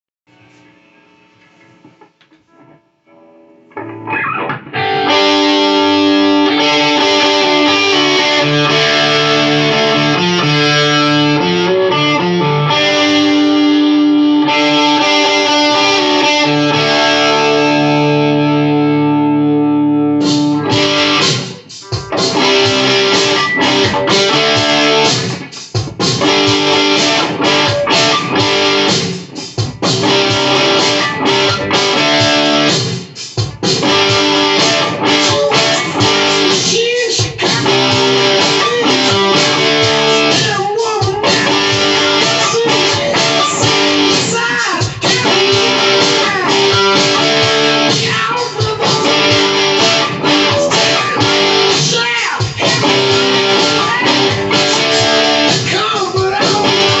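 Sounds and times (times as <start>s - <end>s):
electric guitar playing: 1.5s - 57.0s.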